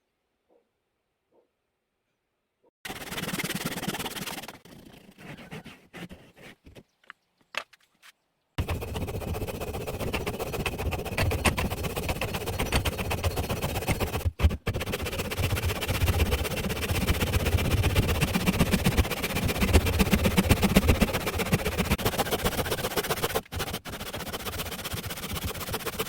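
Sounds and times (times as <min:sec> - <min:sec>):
hand tool rasping wood: 0:02.9 - 0:06.8, 0:08.6 - 0:26.0.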